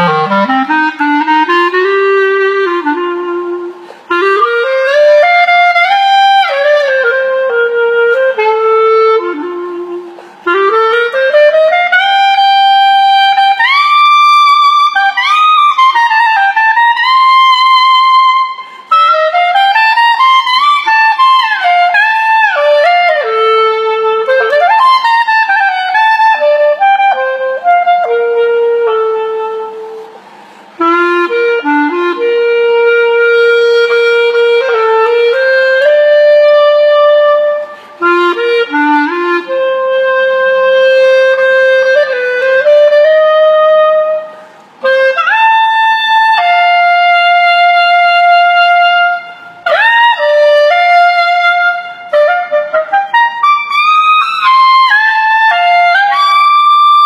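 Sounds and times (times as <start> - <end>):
solo clarinet melody: 0.0 - 57.0.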